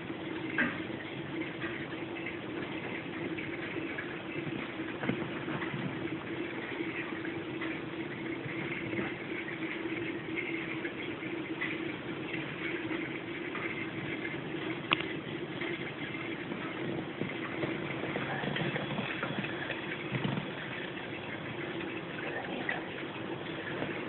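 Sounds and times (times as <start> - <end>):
aquarium water bubbling: 0.0 - 24.0
pump humming: 0.0 - 24.0.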